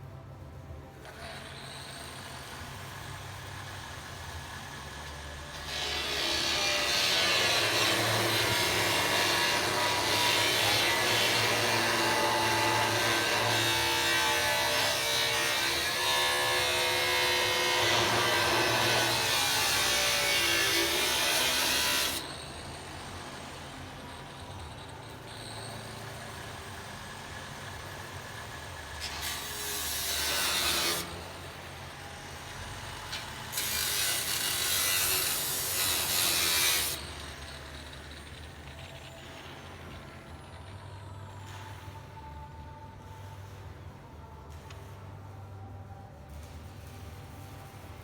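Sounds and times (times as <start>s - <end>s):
power tool cutting steel: 1.0s - 42.4s.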